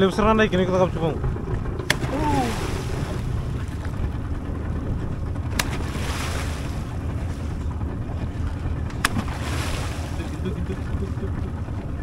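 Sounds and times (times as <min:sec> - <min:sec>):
lapping seawater: 0:00.0 - 0:12.0
wind buffeting microphone: 0:00.0 - 0:12.0.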